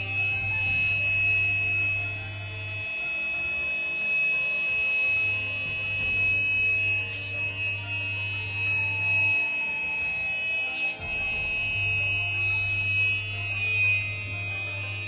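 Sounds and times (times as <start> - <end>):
mini air compressor whining: 0.0 - 15.0.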